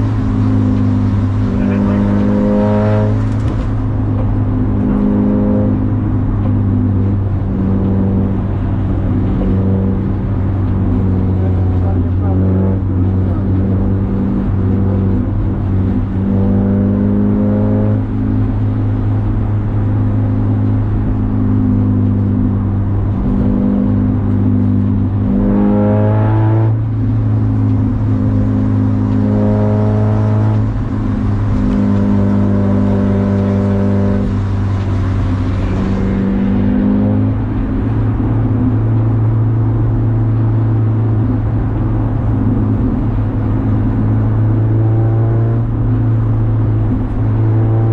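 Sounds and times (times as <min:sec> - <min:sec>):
low drone: 0:00.0 - 0:47.9
race car engine accelerating: 0:00.0 - 0:47.9.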